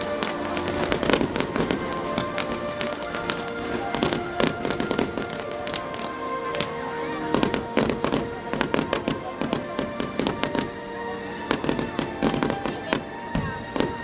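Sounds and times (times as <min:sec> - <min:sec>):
fireworks popping and crackling: 0:00.0 - 0:14.0
music with held tones: 0:00.0 - 0:14.0.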